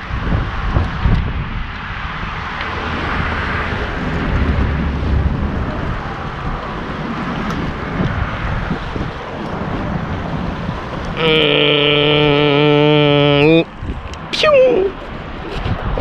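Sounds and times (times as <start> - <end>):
wind buffeting microphone: 0.0 - 11.2, 12.0 - 16.0.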